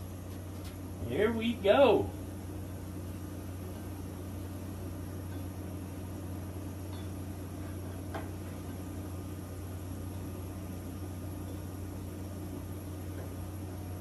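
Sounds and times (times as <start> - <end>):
gas burners humming and hissing: 0.0 - 14.0.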